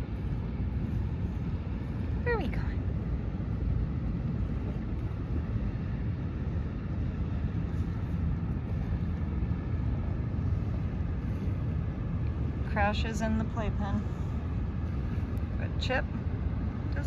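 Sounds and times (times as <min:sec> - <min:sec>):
surf roar: 0:00.0 - 0:17.0
wind on microphone: 0:00.0 - 0:17.0.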